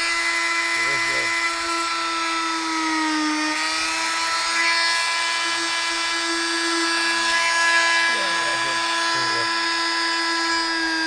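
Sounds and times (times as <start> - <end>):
oscillating multi-tool whining: 0.0 - 11.0.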